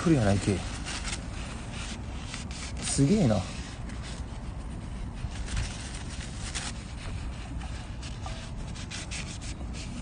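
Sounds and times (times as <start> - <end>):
paper wiping wheel rim: 0.0 - 10.0.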